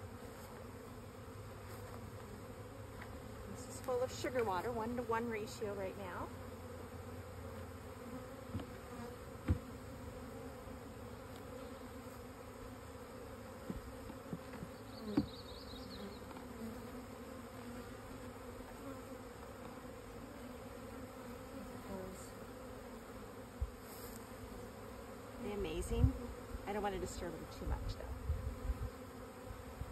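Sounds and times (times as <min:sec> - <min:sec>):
honey bees buzzing: 0:00.0 - 0:29.9.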